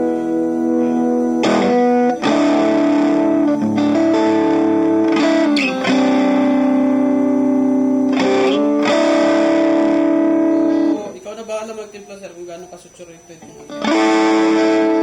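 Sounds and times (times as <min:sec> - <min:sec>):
distorted keyboard chords: 0:00.0 - 0:11.2, 0:13.7 - 0:15.0.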